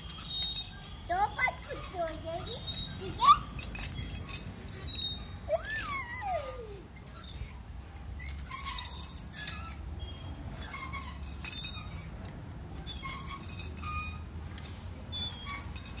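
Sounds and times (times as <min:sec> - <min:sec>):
swing chains clinking and squeaking: 0:00.0 - 0:16.0.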